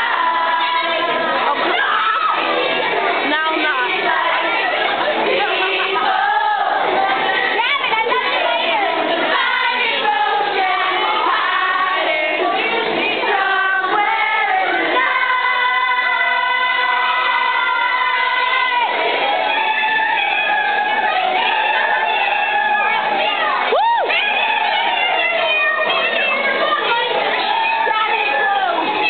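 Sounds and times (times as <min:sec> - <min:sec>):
young people singing together: 0:00.0 - 0:29.0.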